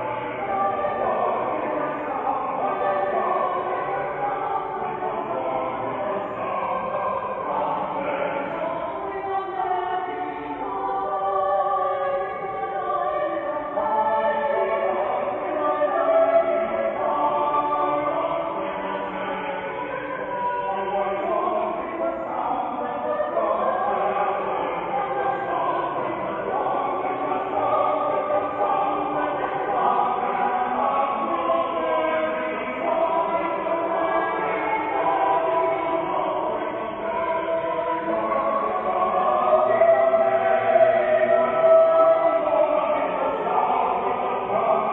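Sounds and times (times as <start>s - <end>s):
church choir singing: 0.0s - 44.9s.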